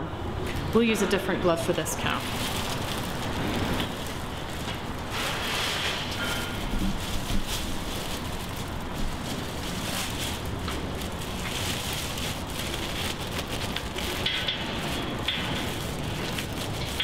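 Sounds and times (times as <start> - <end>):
plastic sleeve crinkling: 1.9 - 17.0.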